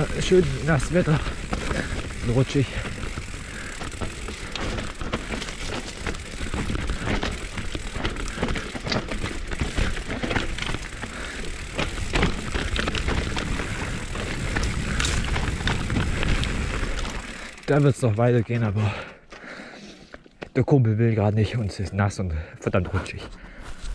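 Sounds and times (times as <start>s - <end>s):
tyres rolling over wet dirt: 0.0s - 19.4s.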